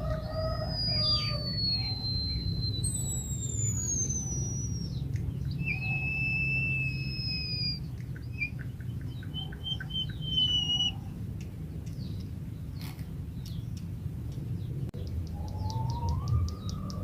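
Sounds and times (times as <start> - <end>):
bird whistling and clicking: 0.0 - 14.4, 15.0 - 17.0
low hum: 0.0 - 17.0.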